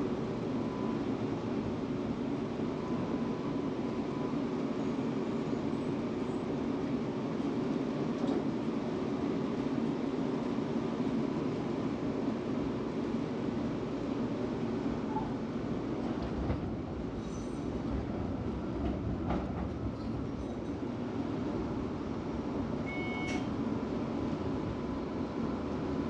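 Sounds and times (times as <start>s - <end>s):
tram wheels and motors rumbling: 0.0s - 26.0s.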